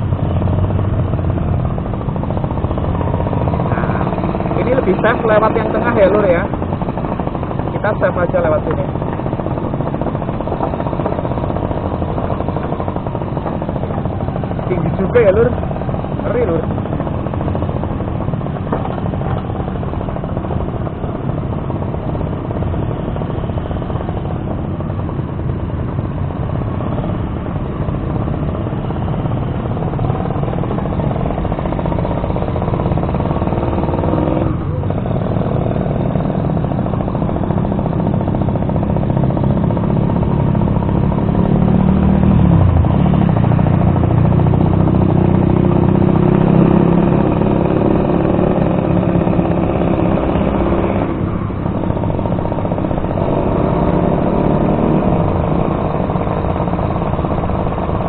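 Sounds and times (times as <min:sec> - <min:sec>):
motorcycle engine running: 0:00.0 - 0:58.0
other motorcycles in traffic: 0:00.0 - 0:58.0.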